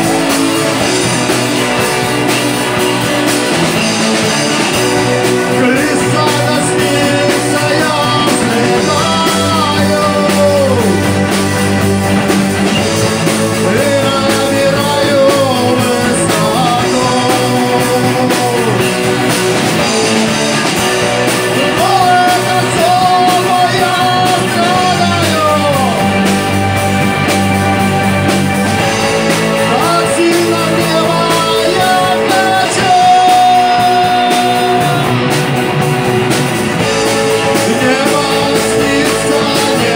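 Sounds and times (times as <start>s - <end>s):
rock band playing: 0.0s - 39.9s
man singing: 3.7s - 27.0s, 29.2s - 35.8s, 36.8s - 39.9s.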